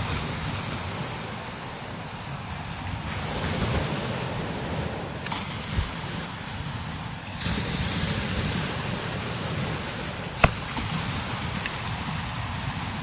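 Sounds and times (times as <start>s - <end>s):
strong wind blowing: 0.0s - 13.0s
wind buffeting microphone: 0.0s - 13.0s.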